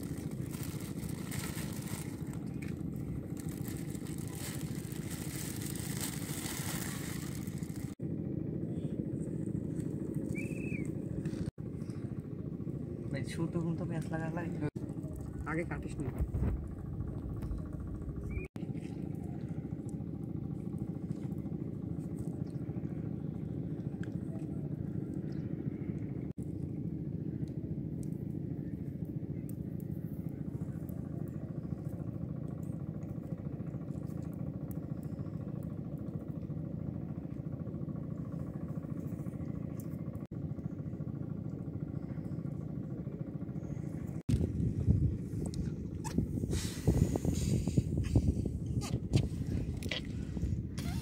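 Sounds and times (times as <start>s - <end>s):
engine droning steadily: 0.0s - 51.0s.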